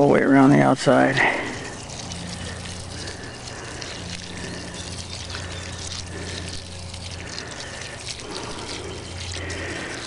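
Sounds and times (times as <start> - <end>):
water pouring onto soil: 0.8 - 10.0.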